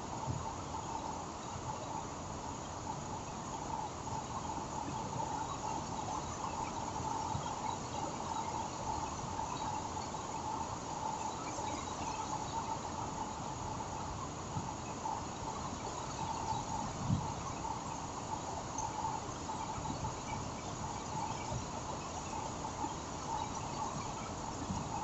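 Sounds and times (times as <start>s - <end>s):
insects chirping: 0.1s - 25.0s.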